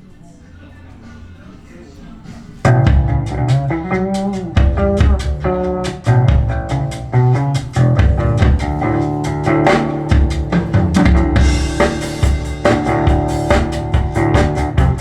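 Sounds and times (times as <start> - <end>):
band music over loudspeakers: 2.7 - 15.0.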